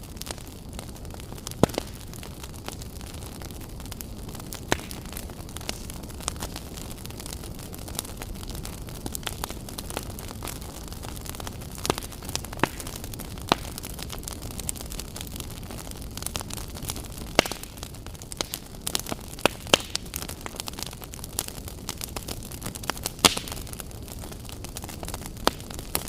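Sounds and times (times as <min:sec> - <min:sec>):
fire crackling and popping: 0:00.0 - 0:26.0
fire flames rumbling: 0:00.0 - 0:26.0.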